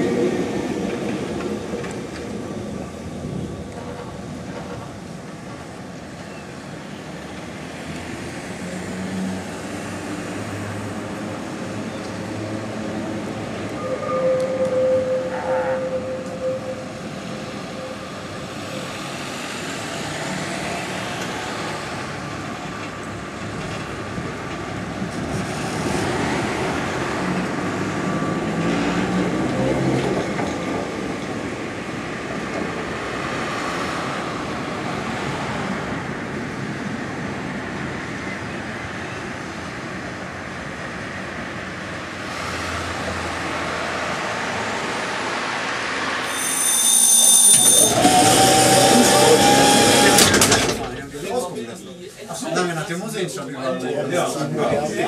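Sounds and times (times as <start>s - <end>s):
tram wheels on rails: 0.0s - 55.0s.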